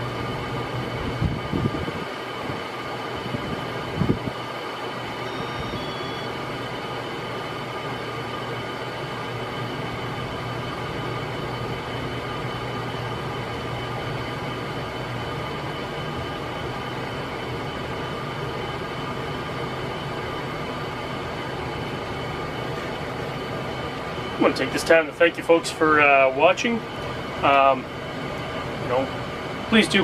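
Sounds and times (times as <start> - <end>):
ceiling fan motor hum: 0.0 - 30.0.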